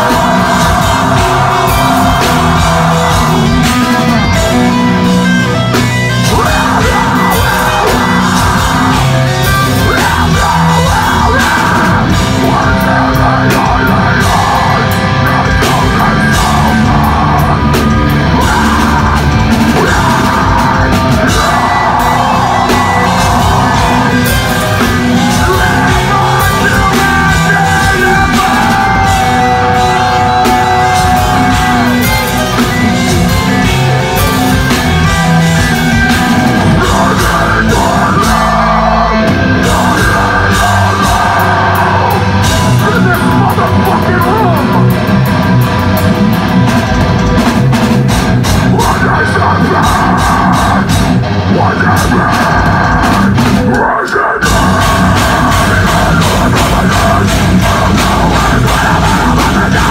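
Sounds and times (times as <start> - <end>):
harsh screamed vocals: 0.0 - 47.3, 48.0 - 59.9
distorted electric guitars: 0.0 - 59.9
pounding drums: 0.0 - 59.9.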